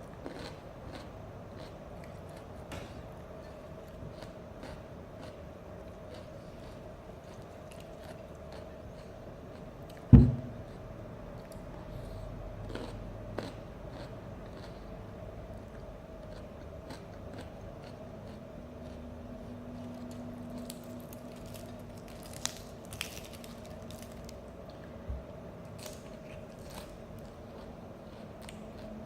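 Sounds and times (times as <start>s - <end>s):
chewing raw vegetables: 0.0s - 15.0s, 15.6s - 24.9s, 25.7s - 29.0s
steady low hum: 0.0s - 29.0s.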